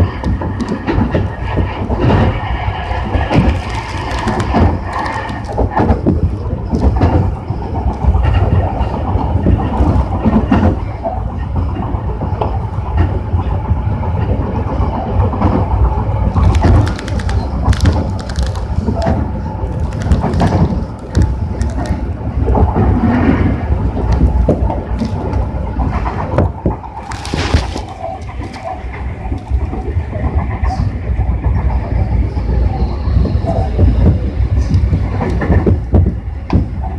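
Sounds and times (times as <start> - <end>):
rail joint clicks: 0.0 - 36.9
train wheels rumbling on rail: 0.0 - 36.9.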